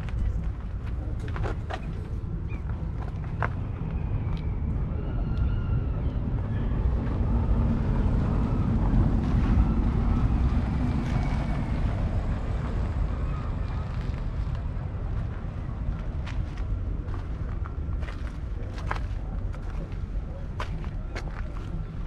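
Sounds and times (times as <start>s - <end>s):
engine rumbling: 0.0s - 22.0s
wind buffeting microphone: 0.0s - 22.0s.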